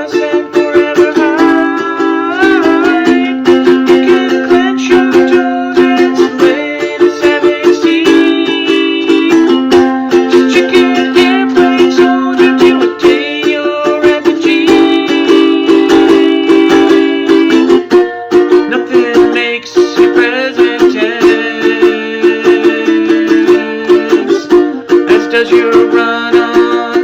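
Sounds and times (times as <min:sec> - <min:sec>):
string instrument strummed: 0:00.0 - 0:27.0.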